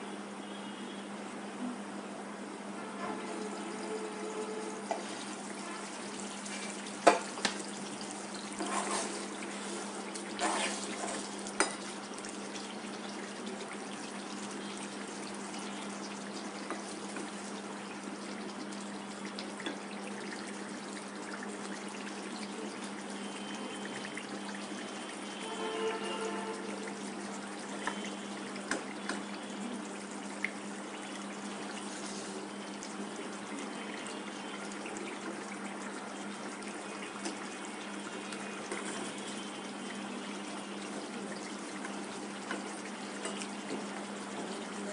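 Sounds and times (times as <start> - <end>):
curry simmering and bubbling: 3.0 - 44.9.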